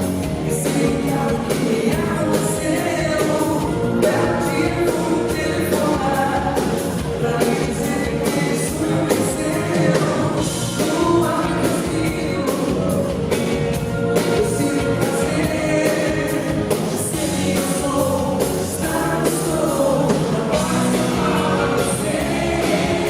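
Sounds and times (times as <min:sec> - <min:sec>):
live pop rock band: 0:00.0 - 0:23.0
person singing: 0:00.2 - 0:23.0.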